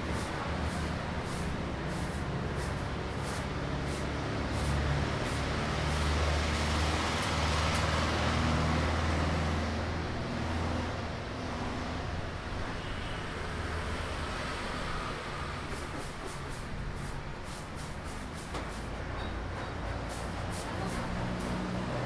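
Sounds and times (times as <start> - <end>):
heavy vehicle passing: 0.0 - 22.0
road traffic engine rumble: 0.0 - 22.0.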